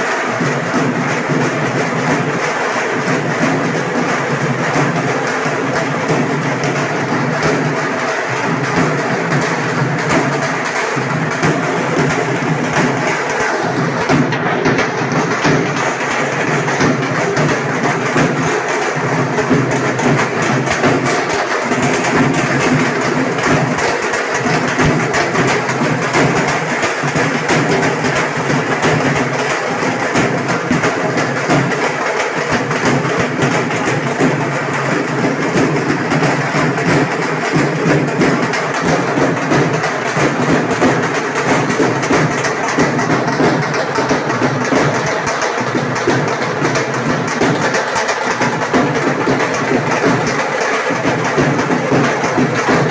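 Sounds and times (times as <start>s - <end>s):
loud music with percussive beat: 0.1s - 52.9s.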